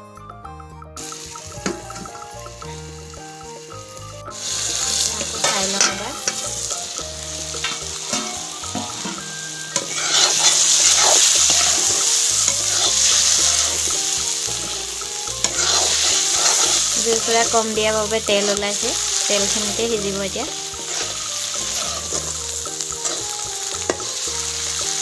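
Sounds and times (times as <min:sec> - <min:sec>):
meat sizzling in oil: 0:01.0 - 0:25.0
metal spatula scraping: 0:04.4 - 0:25.0.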